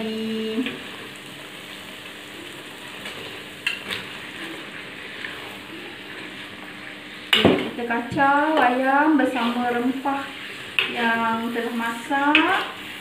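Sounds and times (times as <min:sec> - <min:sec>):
paste sizzling in a wok: 0:00.2 - 0:13.0.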